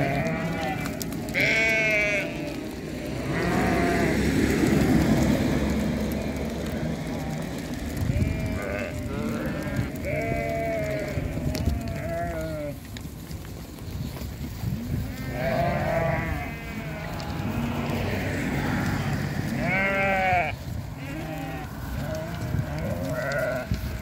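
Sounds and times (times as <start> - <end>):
sheep bleating: 0.0 - 5.0, 6.1 - 12.8, 14.9 - 24.0
moving flock noise: 0.0 - 24.0.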